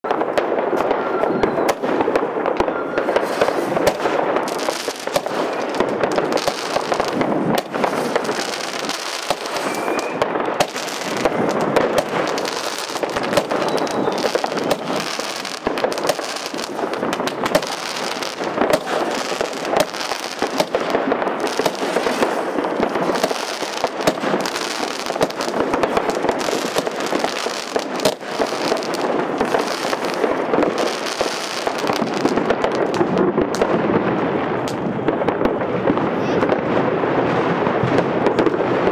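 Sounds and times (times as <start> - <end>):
firework crackling and popping: 0.0 - 38.9.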